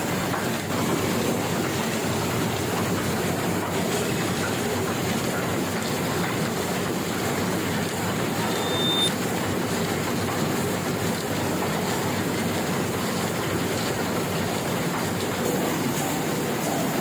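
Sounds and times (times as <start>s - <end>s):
printing press running: 0.0s - 17.0s.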